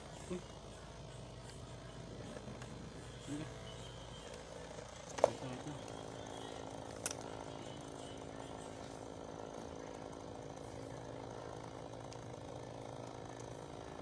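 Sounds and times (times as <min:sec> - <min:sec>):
heat gun blower whirring: 0:00.0 - 0:14.0.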